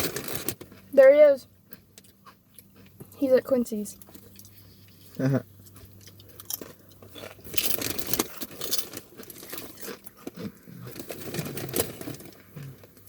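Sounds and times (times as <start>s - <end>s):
chewing potato chips: 0.0s - 3.3s, 3.9s - 13.0s.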